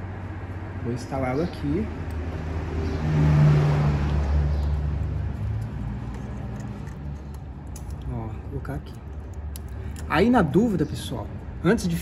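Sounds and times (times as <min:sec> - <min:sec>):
vehicle engine hum passing: 0:00.0 - 0:10.0.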